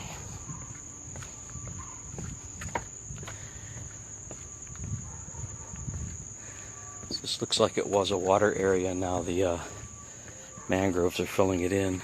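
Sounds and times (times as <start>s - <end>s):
footsteps on boardwalk: 0.0s - 12.0s
high-pitched insect trill: 0.0s - 12.0s.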